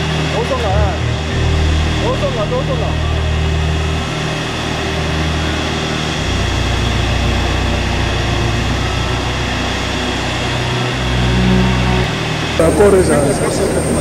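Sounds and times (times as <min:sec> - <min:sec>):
jet engines running: 0:00.0 - 0:14.0
low rumble: 0:00.0 - 0:14.0.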